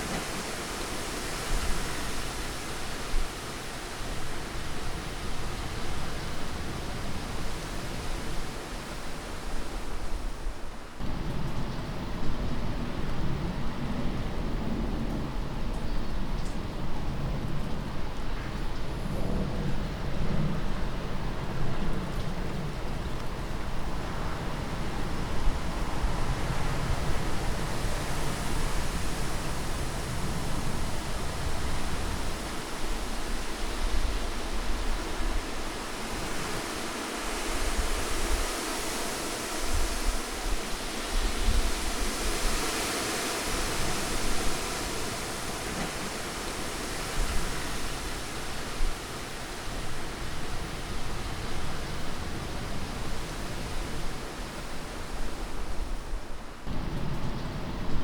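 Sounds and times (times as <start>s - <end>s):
rushing wind: 0.0s - 58.0s.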